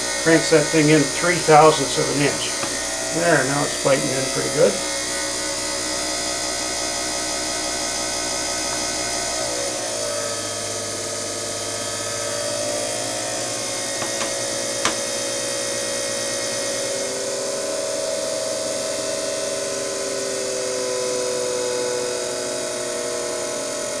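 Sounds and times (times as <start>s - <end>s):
shaving machine whine: 0.0s - 24.0s.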